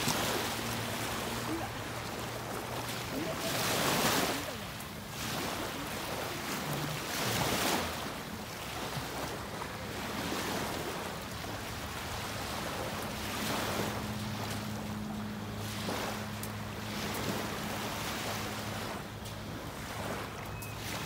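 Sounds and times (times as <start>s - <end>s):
small waves lapping on beach: 0.0s - 21.0s.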